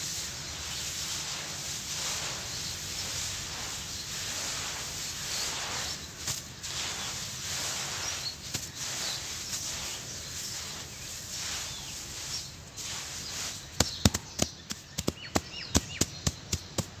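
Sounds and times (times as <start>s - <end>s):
hands crumbling gritty dust: 1.1s - 15.5s.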